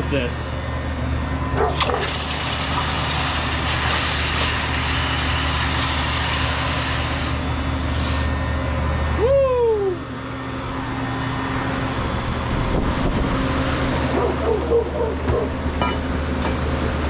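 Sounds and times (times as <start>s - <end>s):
forge hum and rushing hiss: 0.0s - 17.0s.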